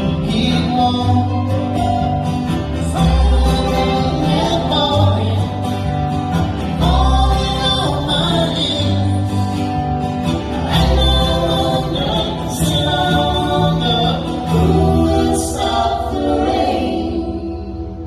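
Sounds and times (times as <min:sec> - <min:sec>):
voices singing in harmony: 0:00.0 - 0:05.5, 0:06.6 - 0:09.2, 0:10.4 - 0:18.0
live band playing: 0:00.0 - 0:18.0.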